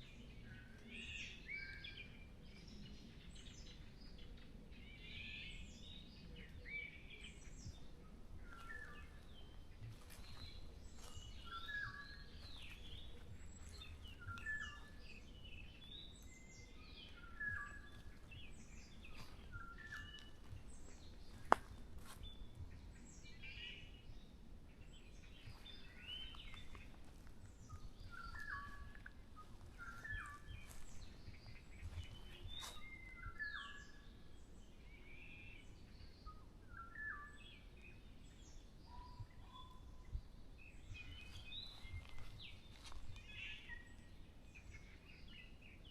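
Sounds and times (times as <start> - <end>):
forest birds singing: 0.0 - 45.9.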